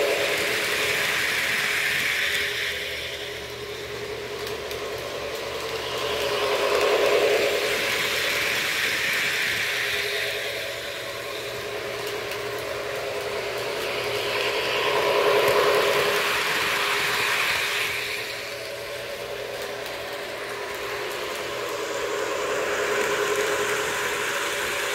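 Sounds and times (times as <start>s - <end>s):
model train rumbling on track: 0.0s - 24.9s.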